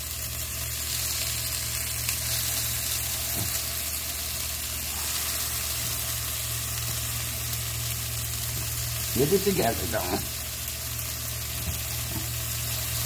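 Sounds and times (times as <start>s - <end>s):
chicken sizzling on a grill: 0.0s - 13.0s
low electric hum: 0.0s - 13.0s.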